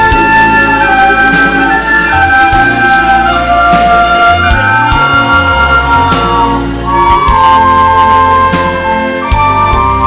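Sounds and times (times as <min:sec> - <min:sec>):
backing track with bass and percussion: 0:00.0 - 0:10.0
recorder playing slow melody: 0:00.0 - 0:10.0.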